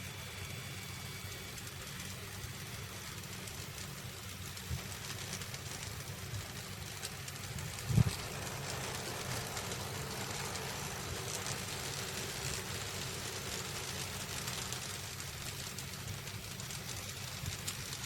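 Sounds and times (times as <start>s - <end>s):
model trains rumbling: 0.0s - 18.0s.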